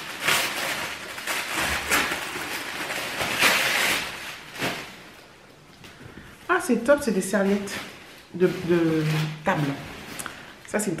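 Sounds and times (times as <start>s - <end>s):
wrapping paper rustling: 0.0s - 11.0s.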